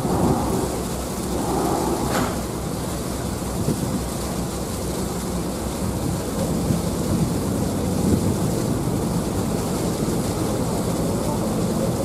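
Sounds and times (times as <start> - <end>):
ferry engine rumble: 0.0 - 12.0
wind and water rushing: 0.0 - 12.0.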